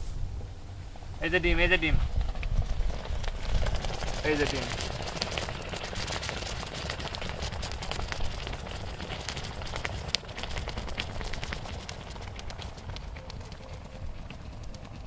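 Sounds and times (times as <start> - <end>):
fizzing and crackling in water: 2.3 - 15.0.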